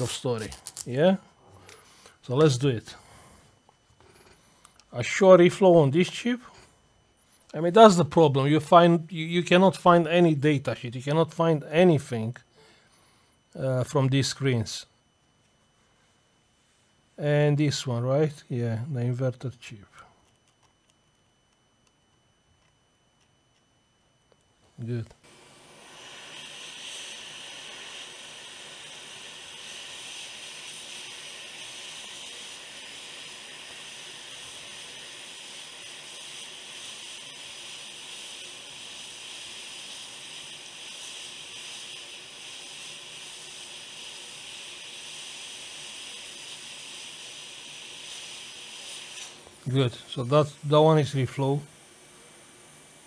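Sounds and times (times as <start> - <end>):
hot air station hissing: 0.0 - 15.0, 24.7 - 53.0.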